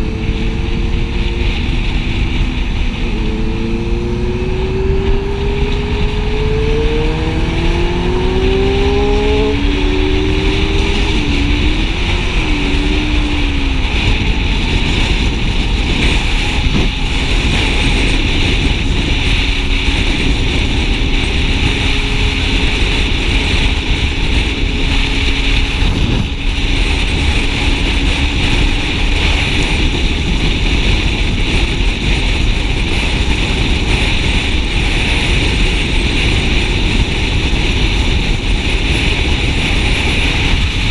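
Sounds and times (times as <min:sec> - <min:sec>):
motorcycle engine accelerating: 0:00.0 - 0:40.9
wind noise: 0:00.0 - 0:40.9.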